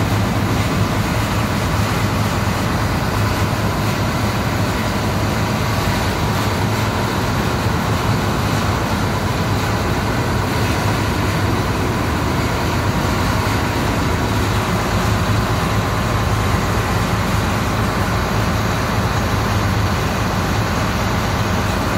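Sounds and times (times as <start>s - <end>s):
diesel engine running steadily: 0.0s - 21.9s.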